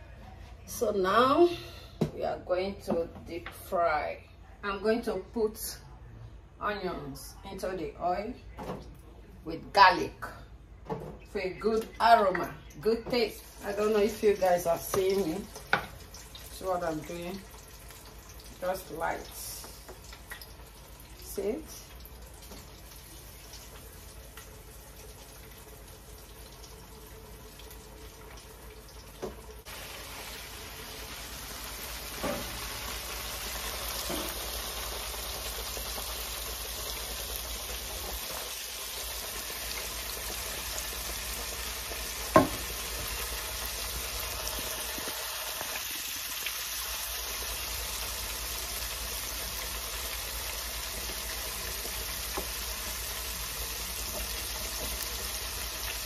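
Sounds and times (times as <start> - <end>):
oil sizzling and bubbling: 10.8 - 56.0.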